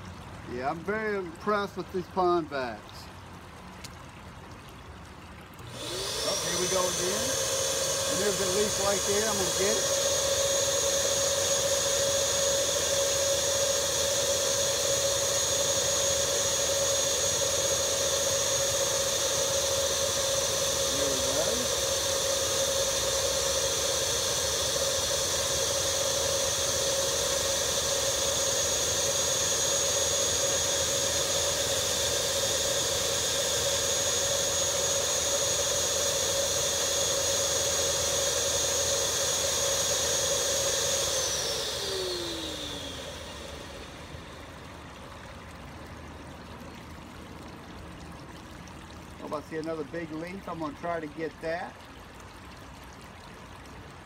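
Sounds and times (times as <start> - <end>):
pond vacuum motor whining: 0.0 - 4.2, 5.1 - 54.0.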